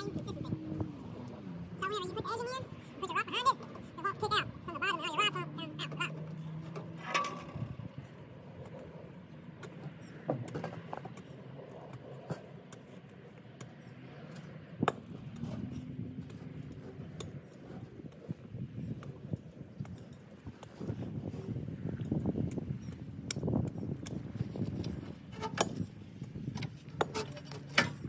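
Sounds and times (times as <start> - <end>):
low outdoor hum: 0.0 - 28.0.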